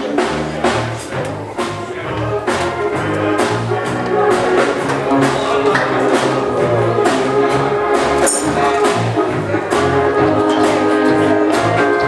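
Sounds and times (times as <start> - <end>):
music with held instrumental notes: 0.0 - 12.0.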